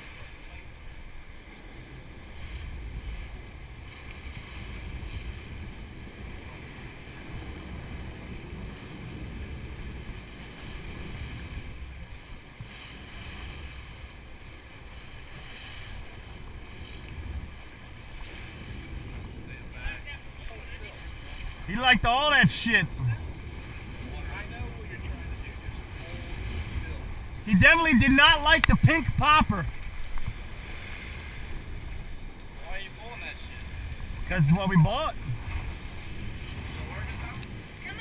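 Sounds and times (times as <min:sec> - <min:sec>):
boat engine rumble: 0:00.0 - 0:38.0
wind buffeting microphone: 0:00.0 - 0:38.0.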